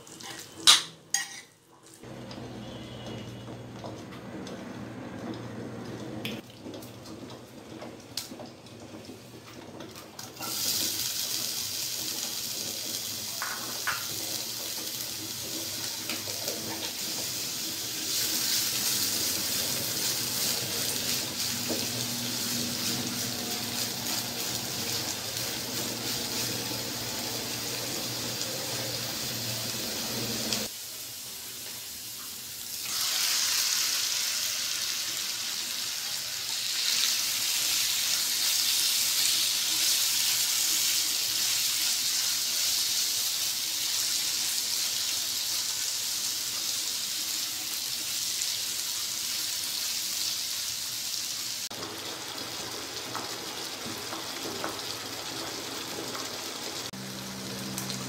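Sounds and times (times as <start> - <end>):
onions sizzling in hot oil: 6.4 - 58.0.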